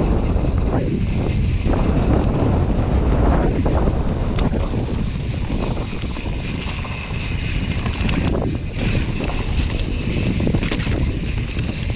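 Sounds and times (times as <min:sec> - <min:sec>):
bike knocks and rattles: 0:00.0 - 0:11.9
bike rolling on dirt trail: 0:00.0 - 0:11.9
wind buffeting microphone: 0:00.0 - 0:11.9.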